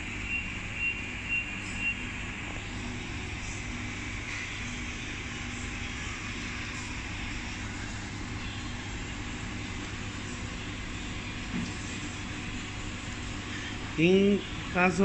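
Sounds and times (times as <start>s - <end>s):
restaurant dining room hum: 0.0s - 15.0s.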